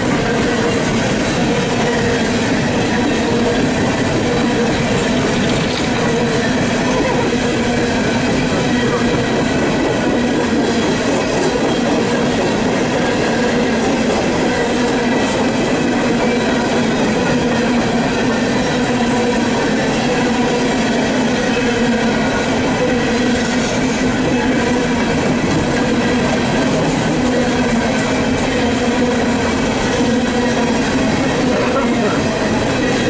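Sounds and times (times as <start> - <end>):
freight train wheels rumbling on rails: 0.0 - 33.0.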